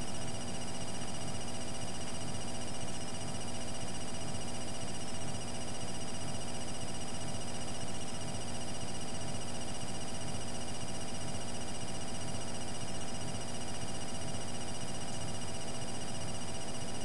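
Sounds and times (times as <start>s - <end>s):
faint buzzing pulse: 0.0s - 17.0s.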